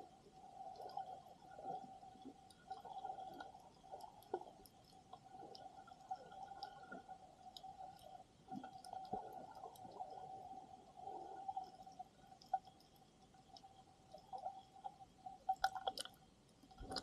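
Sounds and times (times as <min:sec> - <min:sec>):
small underwater clicks and crackles: 0:00.0 - 0:17.0
soft water movement: 0:00.0 - 0:17.0
steady underwater hum: 0:00.0 - 0:17.0.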